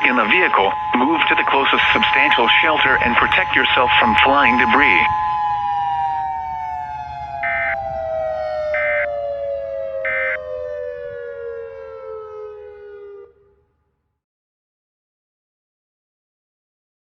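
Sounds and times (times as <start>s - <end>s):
siren winding down: 0.0s - 13.7s.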